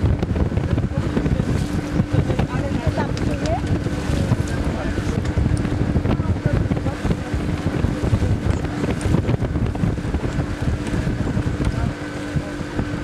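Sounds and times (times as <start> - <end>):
boat engine drone: 0.0 - 13.0
wind buffeting microphone: 0.0 - 13.0.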